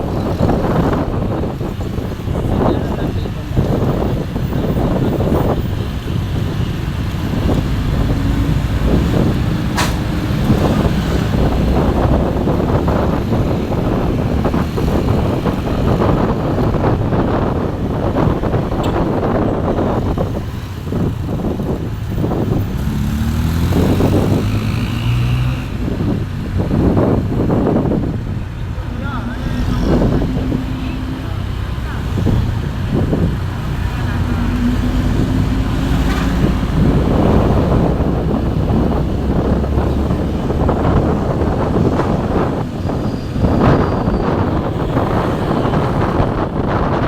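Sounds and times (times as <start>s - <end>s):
road and wind noise: 0.0s - 47.0s.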